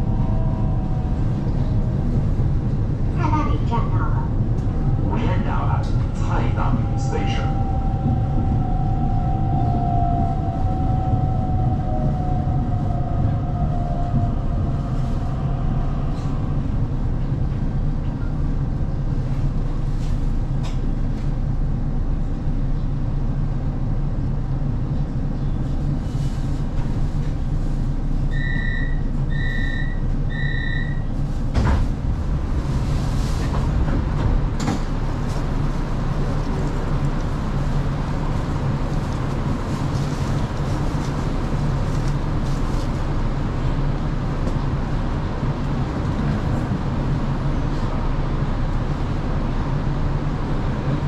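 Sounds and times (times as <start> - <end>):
train rumbling on track: 0.0 - 51.0.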